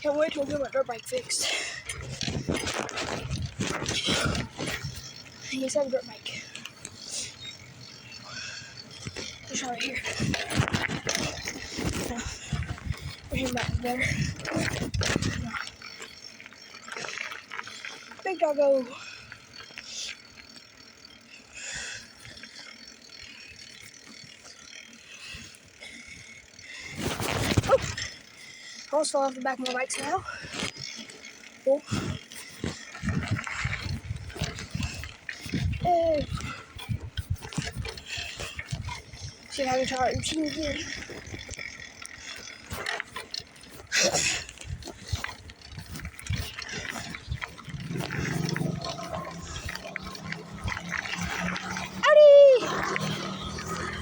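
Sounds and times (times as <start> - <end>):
bicycle freewheel ticking: 0.0 - 54.0.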